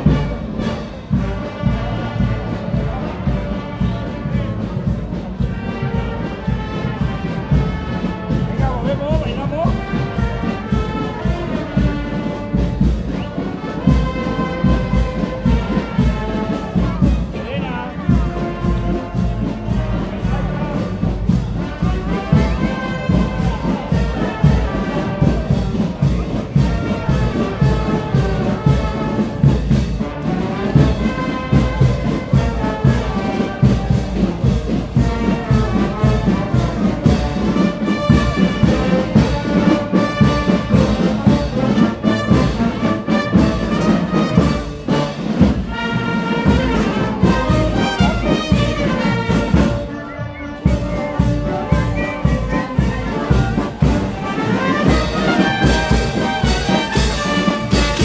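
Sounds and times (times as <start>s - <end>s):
steady drum beat: 0.0s - 50.0s, 50.6s - 58.0s
brass band playing a march: 0.0s - 58.0s.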